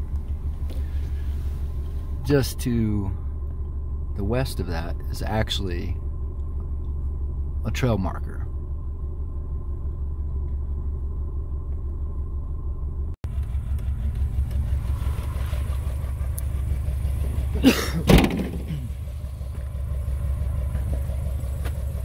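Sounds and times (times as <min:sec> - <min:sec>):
vehicle engine and tyres rumble: 0:00.0 - 0:22.0.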